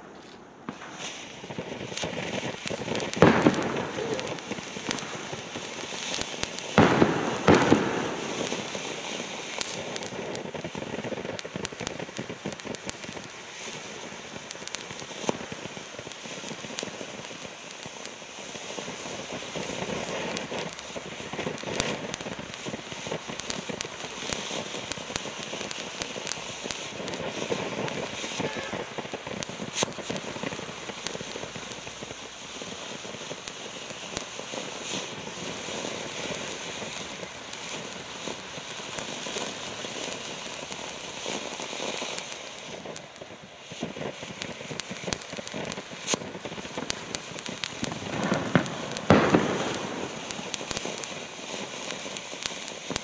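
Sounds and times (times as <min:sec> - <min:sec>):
firework fountain crackling: 0:00.0 - 0:53.0
sharp firework pops: 0:00.0 - 0:53.0.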